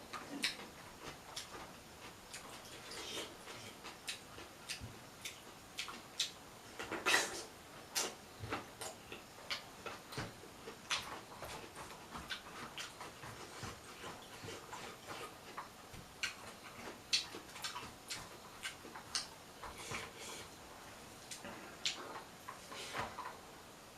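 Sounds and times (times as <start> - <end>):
wet chewing and mouth smacking: 0.1 - 20.6.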